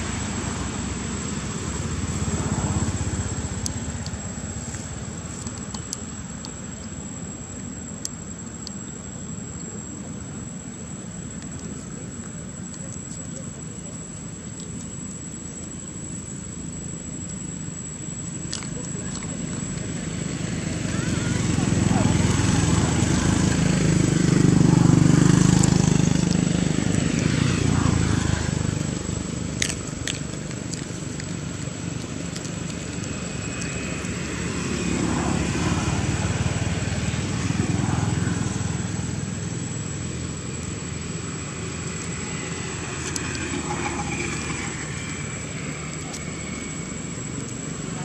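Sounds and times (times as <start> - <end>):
distant low engine drone: 0.0 - 48.0.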